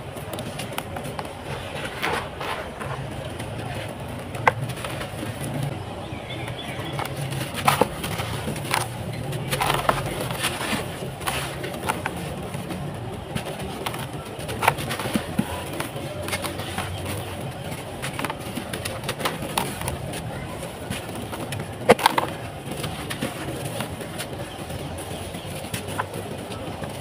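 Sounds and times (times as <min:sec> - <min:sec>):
low steady murmur: 0:00.0 - 0:27.0.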